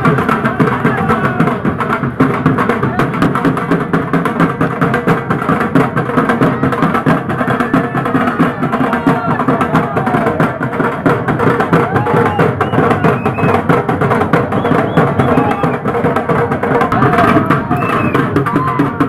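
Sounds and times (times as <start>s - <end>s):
drum band beating barrel drums: 0.0s - 19.0s.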